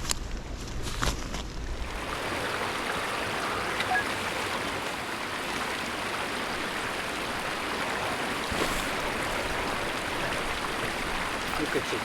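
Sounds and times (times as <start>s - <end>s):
flowing water rushing: 1.7s - 12.0s.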